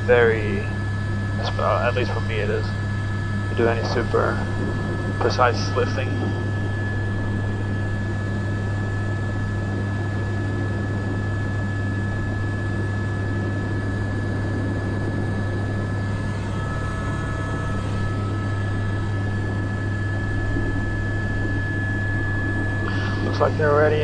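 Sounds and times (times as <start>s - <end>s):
helicopter engine deep hum: 0.0s - 24.0s
high-pitched whine: 0.0s - 24.0s.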